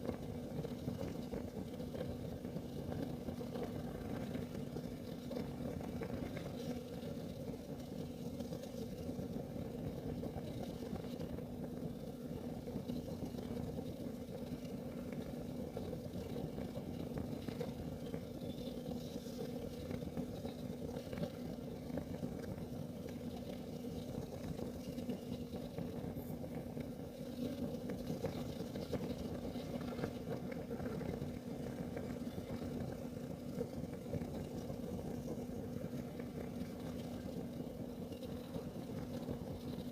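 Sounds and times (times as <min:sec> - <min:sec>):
constant hum: 0:00.0 - 0:39.9
heater burning rumble: 0:00.0 - 0:39.9.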